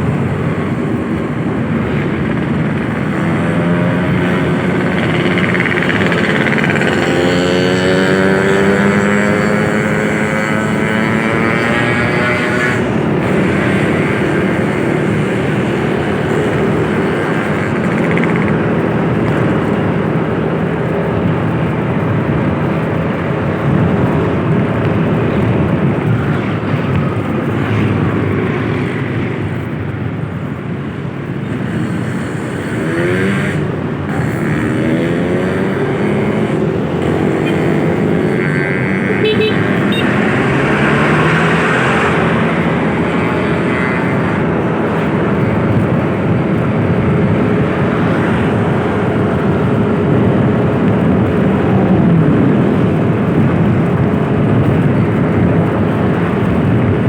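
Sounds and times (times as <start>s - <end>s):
vehicle engine running: 0.0s - 28.4s, 29.1s - 57.0s
road noise: 0.0s - 57.0s.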